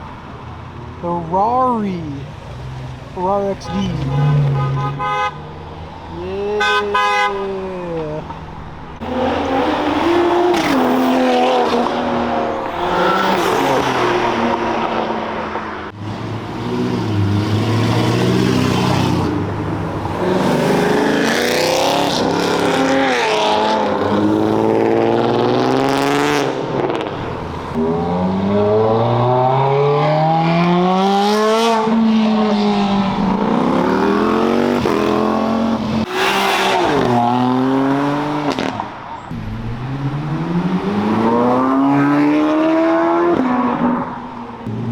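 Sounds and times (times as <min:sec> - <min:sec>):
car engines accelerating hard: 0:00.0 - 0:44.9.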